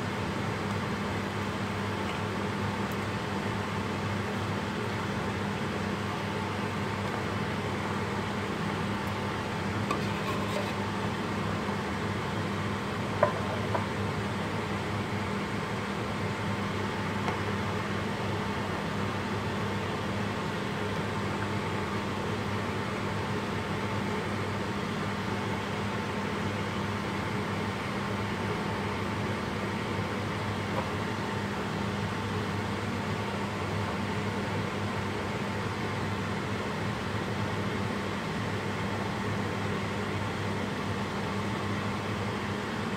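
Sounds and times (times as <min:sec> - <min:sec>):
kitchen fan humming: 0:00.0 - 0:42.9.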